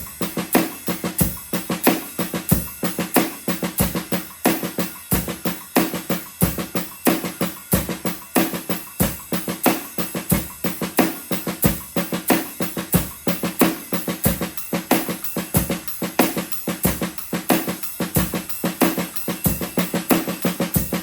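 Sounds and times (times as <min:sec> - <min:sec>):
cymbal pattern: 0:00.0 - 0:21.0.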